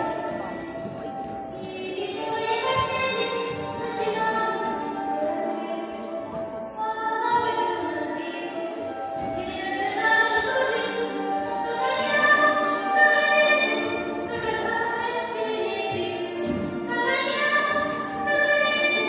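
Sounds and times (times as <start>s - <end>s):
orchestral accompaniment: 0.0s - 19.0s.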